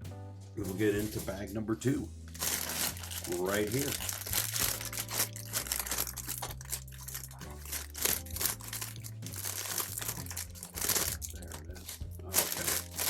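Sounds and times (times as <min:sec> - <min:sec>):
plastic bag crinkling: 0:02.3 - 0:13.0
plastic bag tearing: 0:02.3 - 0:13.0.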